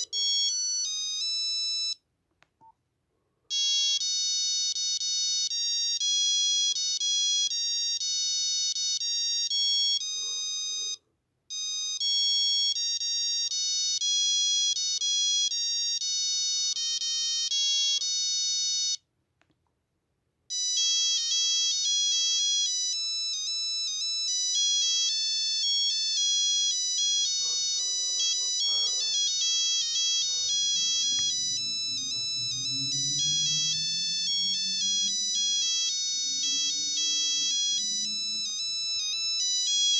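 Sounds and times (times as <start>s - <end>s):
mobile phone ringtone melodies: 0.0s - 2.0s, 3.5s - 19.1s, 20.5s - 39.9s.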